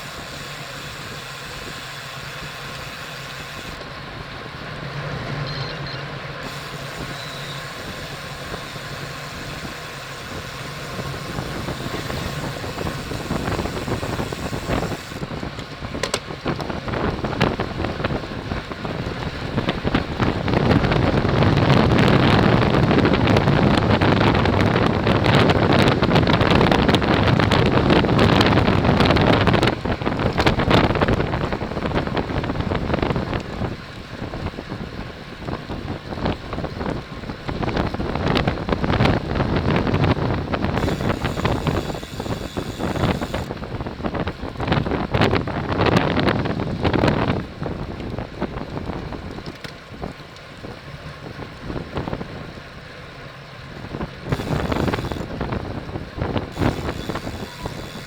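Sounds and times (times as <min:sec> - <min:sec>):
wind rushing over microphone: 0:00.0 - 0:52.6, 0:53.8 - 0:58.0
bicycle tyre and road noise: 0:00.0 - 0:58.0.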